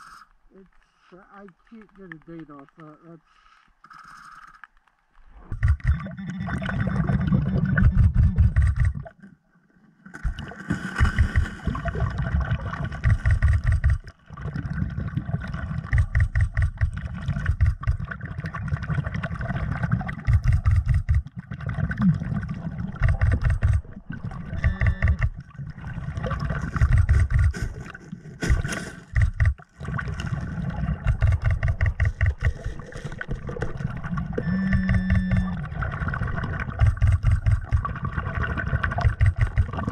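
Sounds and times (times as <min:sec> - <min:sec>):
underwater pulsing rumble: 0:05.1 - 0:09.2, 0:10.2 - 0:39.9.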